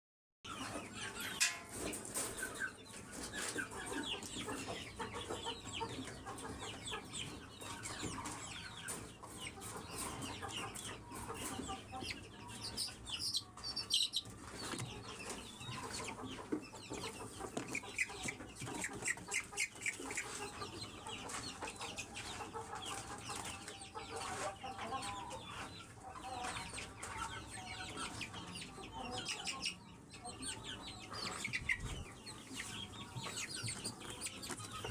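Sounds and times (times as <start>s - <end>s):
chicken clucking: 0.5s - 34.9s
chicks peeping: 0.5s - 34.9s.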